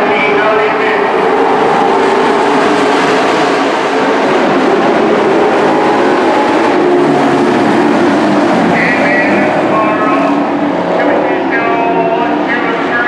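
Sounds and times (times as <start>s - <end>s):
race truck engines roaring: 0.0s - 13.0s.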